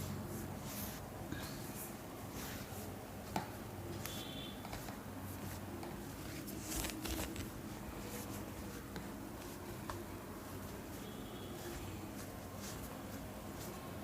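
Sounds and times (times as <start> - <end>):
hands rubbing hair: 0.0 - 14.0.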